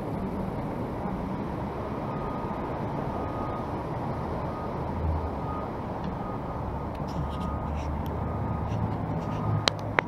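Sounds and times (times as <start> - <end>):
rumbling street traffic: 0.0 - 10.0.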